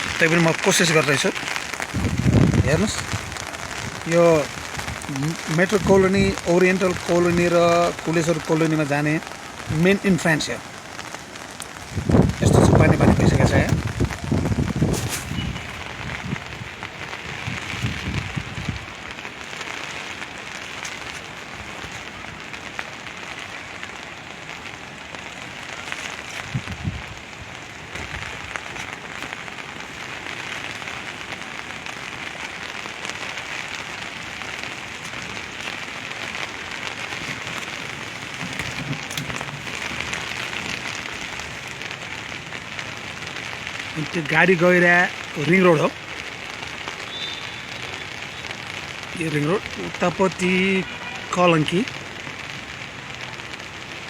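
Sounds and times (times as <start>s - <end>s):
heavy rain hissing: 0.0s - 54.0s
raindrops hitting umbrella: 0.0s - 54.0s.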